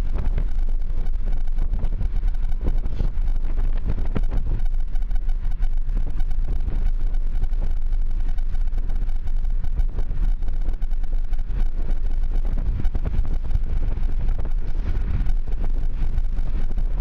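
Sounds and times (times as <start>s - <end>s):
car road and engine rumble: 0.0s - 17.0s
rushing noise: 0.0s - 17.0s.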